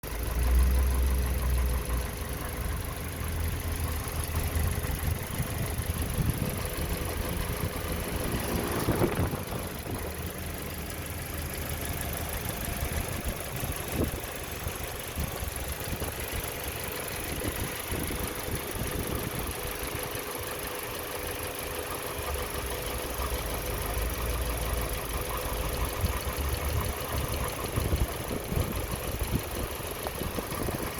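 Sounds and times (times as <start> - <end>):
car engine running: 0.0 - 30.9
rapid ticking rattle: 0.0 - 30.9.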